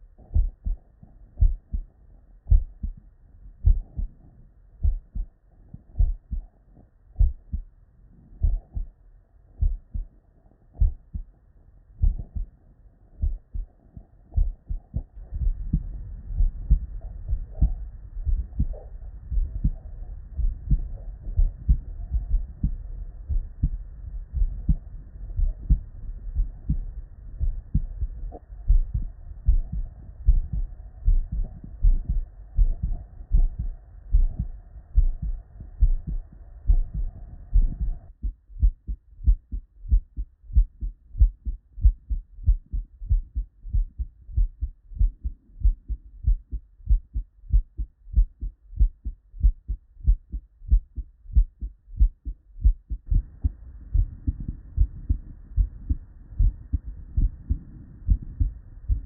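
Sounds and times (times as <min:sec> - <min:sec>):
heartbeat through stethoscope: 0:00.0 - 0:59.0.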